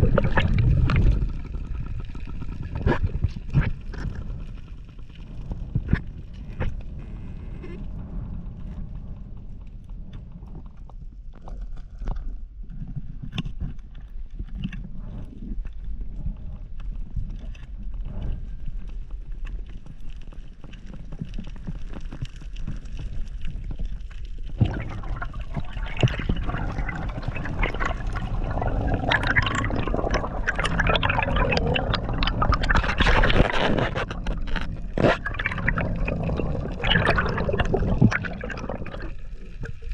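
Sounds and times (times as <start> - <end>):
water bubbling and gurgling: 0.0 - 13.6, 14.4 - 39.9
low underwater rumble: 0.0 - 39.9.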